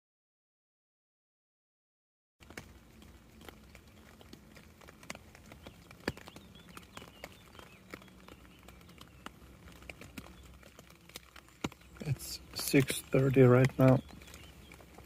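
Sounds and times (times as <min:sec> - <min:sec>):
water drops tapping on a tent: 0:02.4 - 0:15.0.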